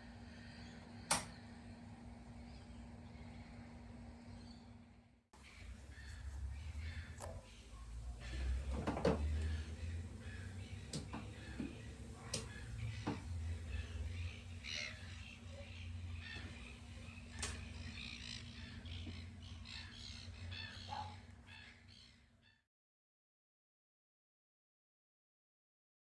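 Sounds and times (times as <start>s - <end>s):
low steady rumble: 0.0s - 22.1s
birds chirping: 0.1s - 22.6s.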